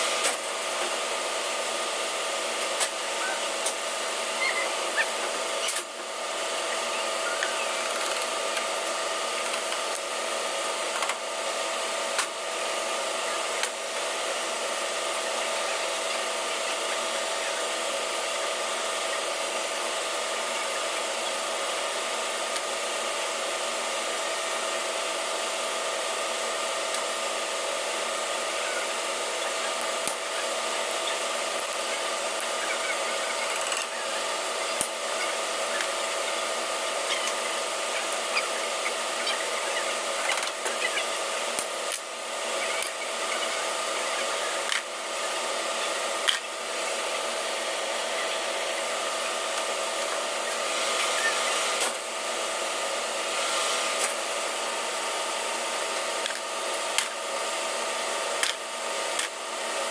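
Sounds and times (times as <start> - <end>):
constant hum tones: 0.0 - 59.9
machinery and ventilation drone: 0.0 - 59.9.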